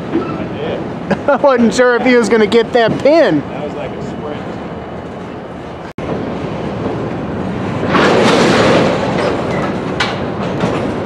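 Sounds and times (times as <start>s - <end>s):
freight cars rumbling on rails: 0.0s - 11.0s.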